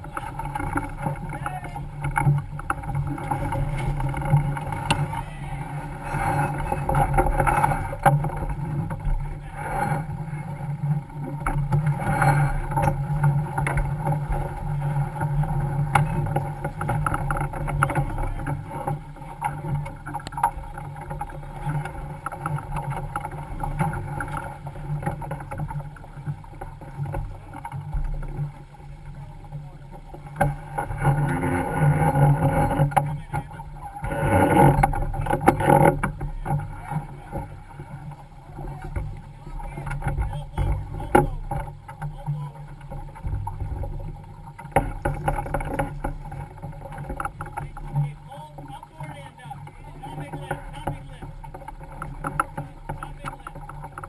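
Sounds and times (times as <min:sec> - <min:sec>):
water rushing along hull: 0:00.0 - 0:54.0
wind: 0:00.0 - 0:54.0.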